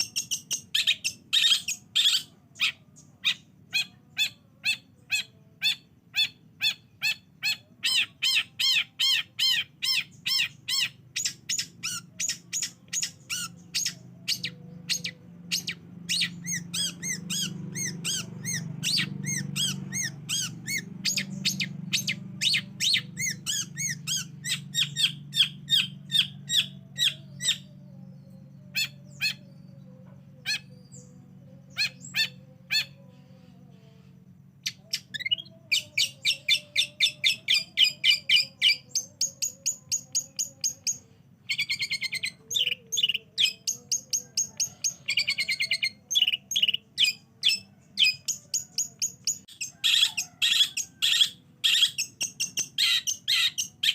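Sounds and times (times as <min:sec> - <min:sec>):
bird singing sharp repeated notes: 0:00.0 - 0:33.4, 0:34.6 - 0:53.9.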